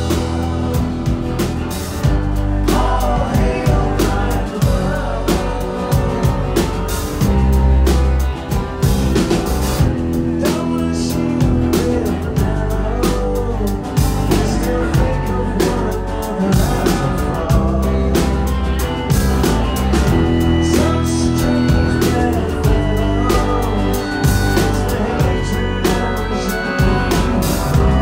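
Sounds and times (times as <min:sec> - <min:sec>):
drum kit beat: 0:00.0 - 0:28.0
electric bass: 0:00.0 - 0:28.0
electric guitars: 0:00.0 - 0:28.0.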